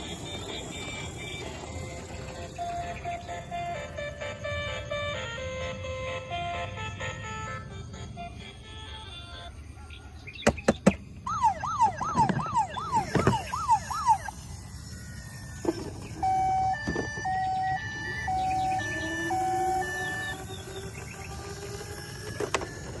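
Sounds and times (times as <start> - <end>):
toy electronic siren wailing: 0.0 - 10.3, 11.2 - 23.0.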